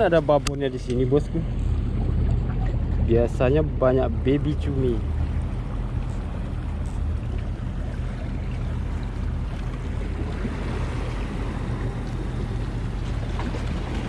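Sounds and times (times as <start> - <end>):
boat engine humming: 0.0 - 14.0
water noise: 0.0 - 14.0
wind: 0.0 - 14.0.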